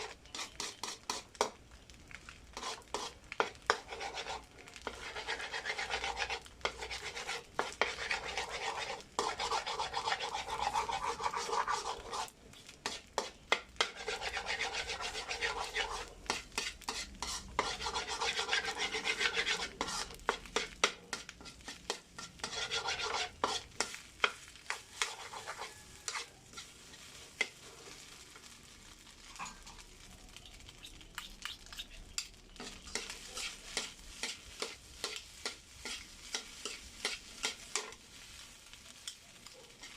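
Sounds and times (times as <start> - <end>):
spatula scraping a metal pan: 0.0 - 1.5, 2.5 - 28.5, 32.0 - 38.4
rice sizzling in a pan: 0.0 - 39.9.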